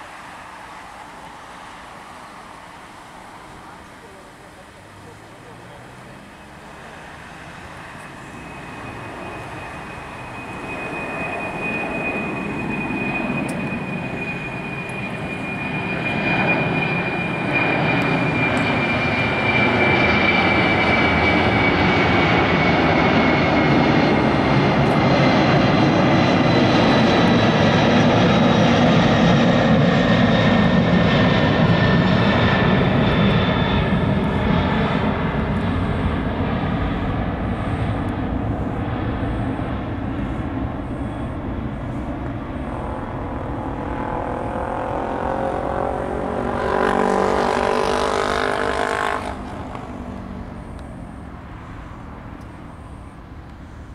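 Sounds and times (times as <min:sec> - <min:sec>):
high engine whine: 0:00.0 - 0:53.9
jet engine roar: 0:00.0 - 0:53.9.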